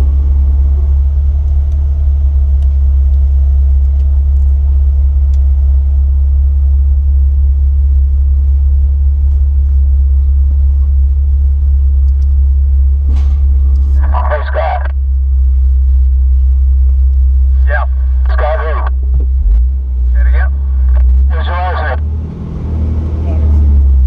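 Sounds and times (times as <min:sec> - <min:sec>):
engine running low rumble: 0:00.0 - 0:24.0.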